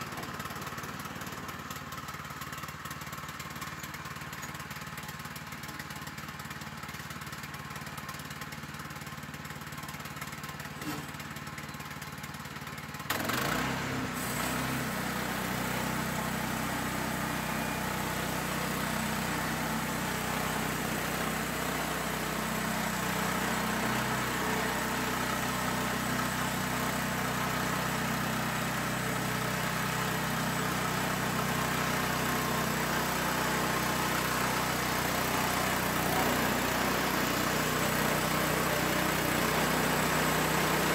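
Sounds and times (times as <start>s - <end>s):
sawmill gas engine: 0.0s - 40.9s.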